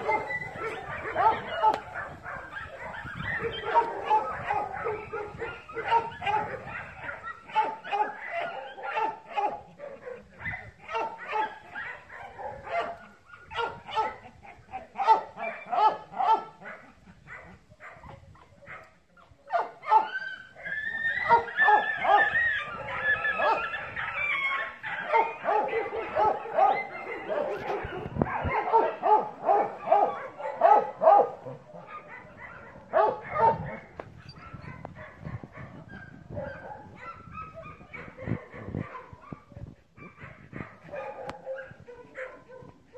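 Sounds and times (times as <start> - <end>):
dog barking and yipping: 0.0 - 42.9.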